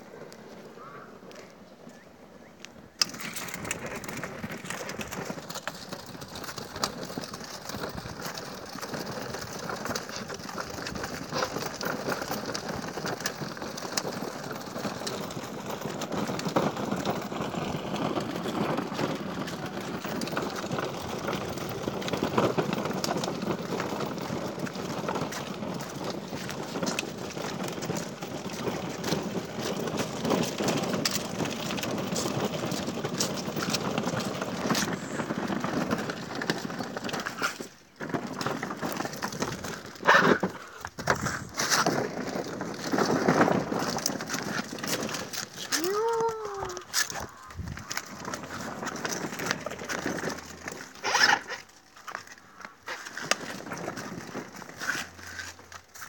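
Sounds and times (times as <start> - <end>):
toy car rattling over brick paving: 2.6 - 56.0.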